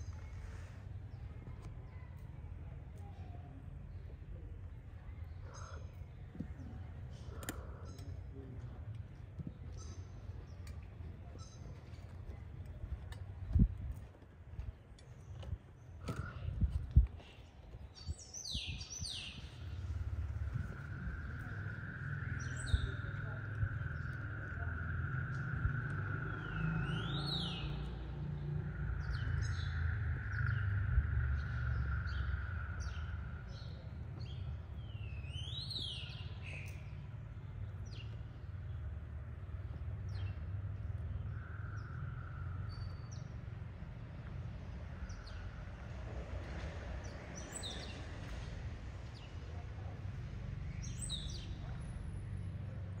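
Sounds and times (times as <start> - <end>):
small birds chirping: 0.0 - 25.0, 25.7 - 53.0
low street rumble: 0.0 - 53.0.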